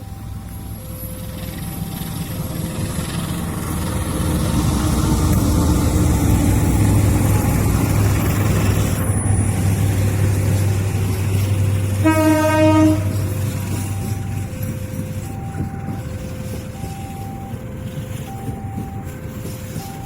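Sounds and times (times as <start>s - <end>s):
locomotive engine hum: 0.0s - 20.0s.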